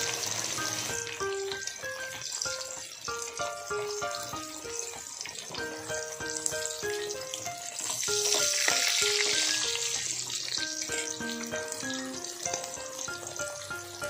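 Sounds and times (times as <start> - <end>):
fish sizzling in hot oil: 0.0 - 14.0
plucked melody background music: 0.0 - 14.0.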